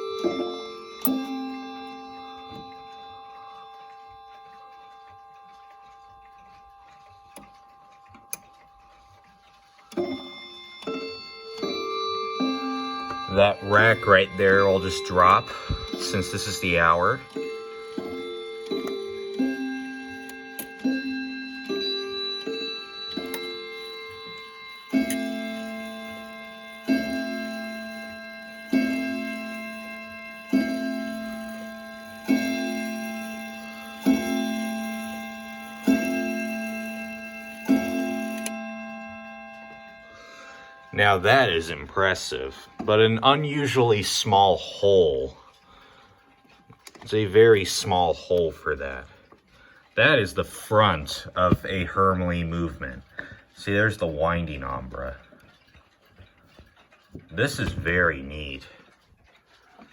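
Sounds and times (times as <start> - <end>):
clock chime tones: 0.0 - 59.9
clock ticking faintly: 0.0 - 59.9
clock works clicking: 0.0 - 59.9.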